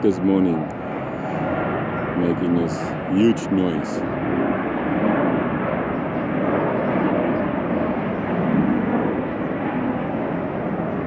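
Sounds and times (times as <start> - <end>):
airplane engines: 0.0 - 11.0.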